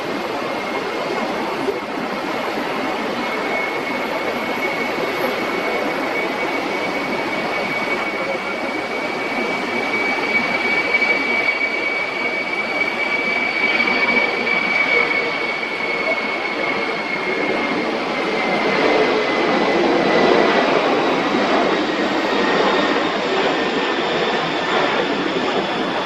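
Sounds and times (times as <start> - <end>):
jet engines rushing with high whine: 0.0 - 26.0.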